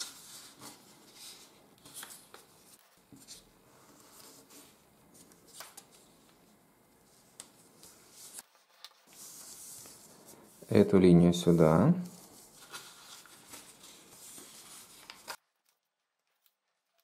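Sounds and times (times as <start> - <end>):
paper rustling as folded: 0.0 - 6.4, 7.0 - 10.4, 12.0 - 17.0.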